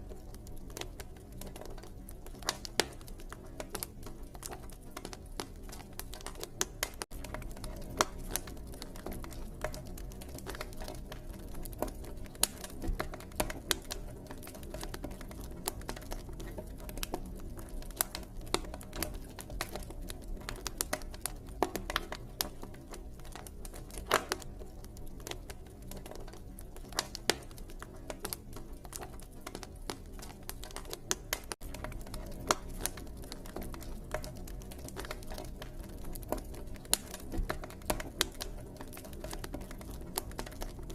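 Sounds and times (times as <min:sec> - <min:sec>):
campfire crackling: 0:00.0 - 0:40.9
low rumble of burning fire: 0:00.0 - 0:40.9.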